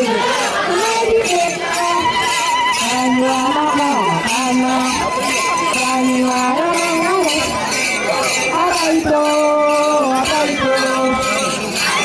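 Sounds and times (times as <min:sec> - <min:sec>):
group chanting call and response: 0:00.0 - 0:12.0.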